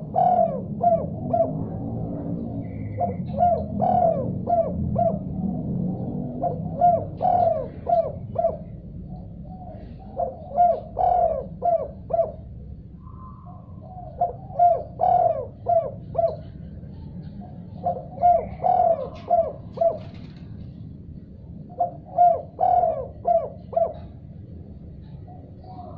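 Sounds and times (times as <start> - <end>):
dove cooing: 0.0 - 20.8, 21.6 - 25.9
steady low hum: 0.0 - 25.9.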